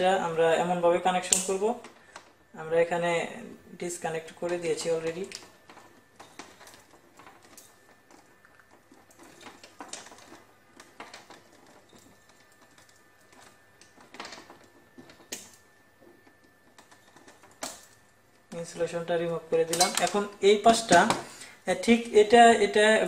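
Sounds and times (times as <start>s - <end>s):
wire handling: 1.1s - 2.5s, 3.9s - 21.5s.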